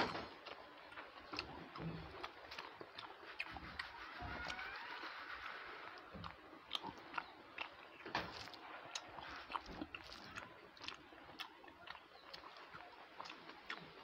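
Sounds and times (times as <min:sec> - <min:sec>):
chewing and lip-smacking: 0:00.4 - 0:14.0.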